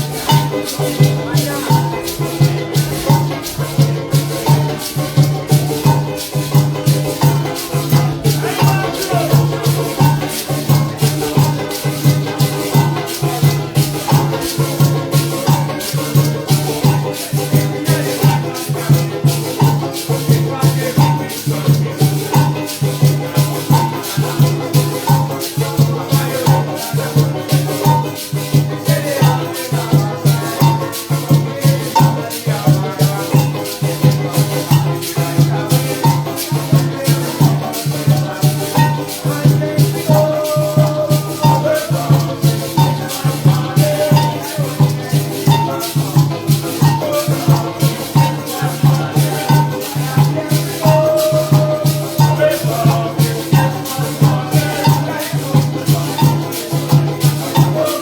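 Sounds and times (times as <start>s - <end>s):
maracas shaking: 0.0s - 58.0s
plucked string melody: 0.0s - 58.0s.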